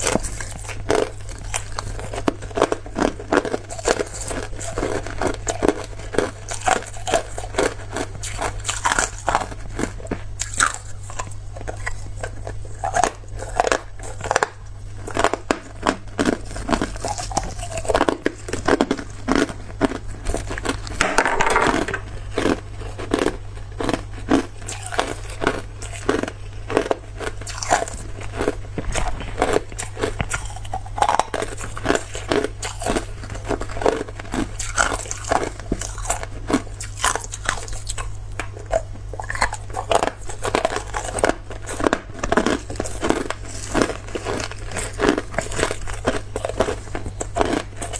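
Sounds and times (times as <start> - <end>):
ice being chewed: 0.0 - 47.9
steady low hum: 0.0 - 47.9.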